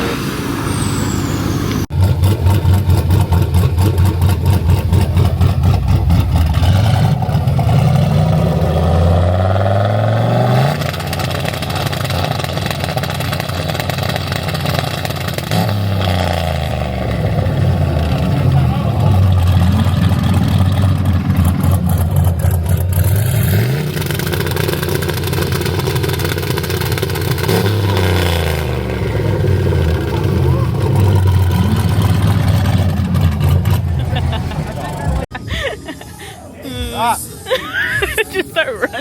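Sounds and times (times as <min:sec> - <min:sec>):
truck engine revving: 0:00.0 - 0:35.4.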